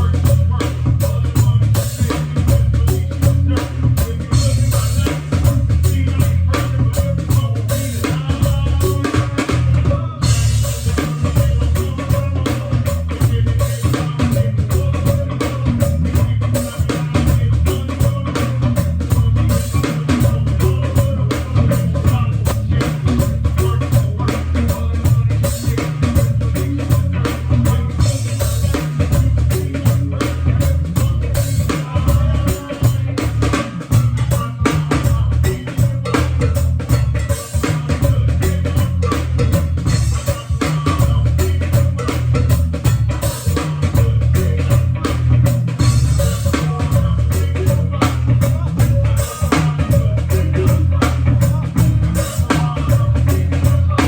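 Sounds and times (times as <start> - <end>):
drum kit beat: 0.0 - 54.0
heavy bass: 0.0 - 54.0.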